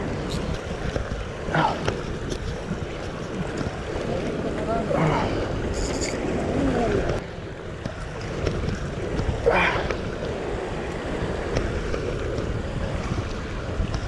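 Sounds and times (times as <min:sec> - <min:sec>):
ocean swell washing against rock: 0:00.0 - 0:14.0
wind buffeting microphone: 0:00.0 - 0:14.0.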